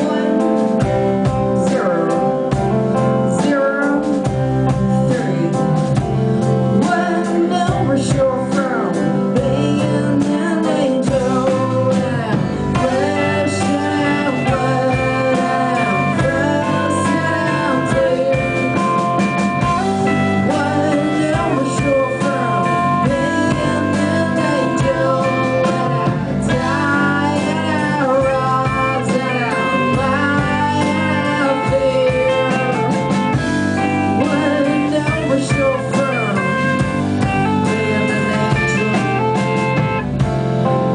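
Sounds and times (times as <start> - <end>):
live band playing blues-rock: 0.0 - 40.9.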